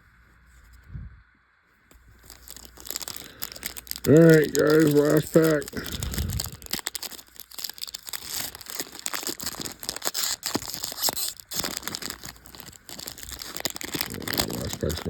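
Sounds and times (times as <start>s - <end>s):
foil wrapper crinkling and tearing: 1.9s - 15.0s.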